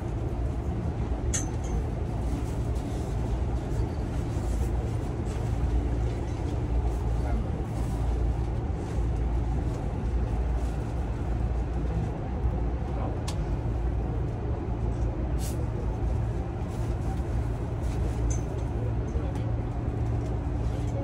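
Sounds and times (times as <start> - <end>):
electric train interior hum and rumble: 0.0 - 21.0.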